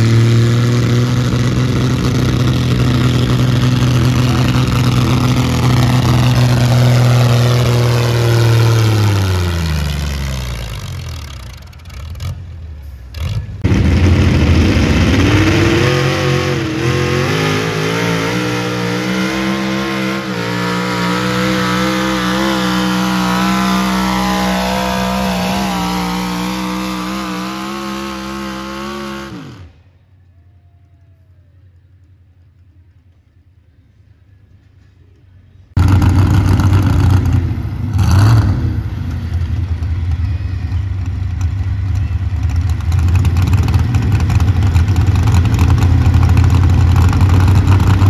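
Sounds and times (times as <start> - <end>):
diesel truck engine under heavy load: 0.0 - 29.9, 35.8 - 48.0
tractor engine at full power: 0.0 - 29.9, 35.8 - 48.0.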